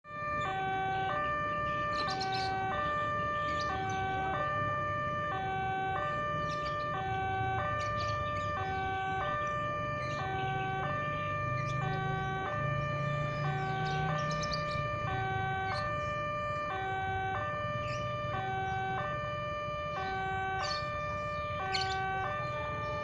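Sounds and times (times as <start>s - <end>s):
two-tone crossing alarm: 0.0s - 23.0s.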